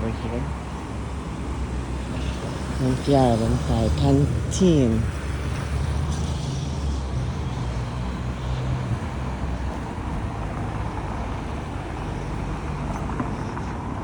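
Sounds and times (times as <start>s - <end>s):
road noise: 0.0s - 14.0s
vehicle engine rumbling: 0.0s - 14.0s.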